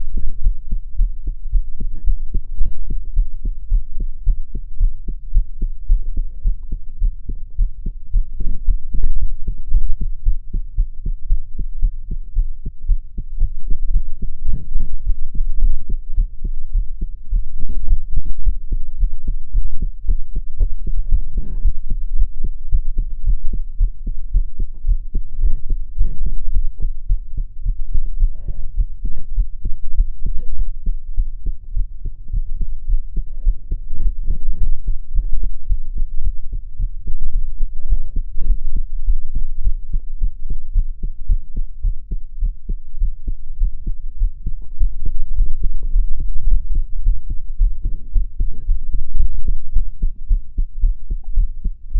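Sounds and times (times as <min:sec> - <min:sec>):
heartbeat thumps: 0:00.0 - 0:51.9.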